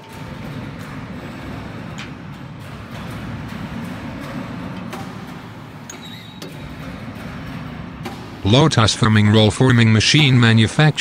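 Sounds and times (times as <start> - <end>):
machine mechanical rumble: 0.0 - 11.0.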